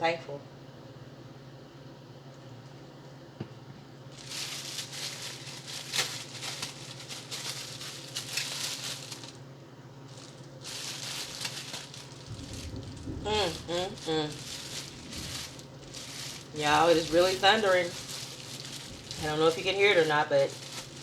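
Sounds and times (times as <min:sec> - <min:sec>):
plastic packaging crinkling: 0:04.1 - 0:21.0.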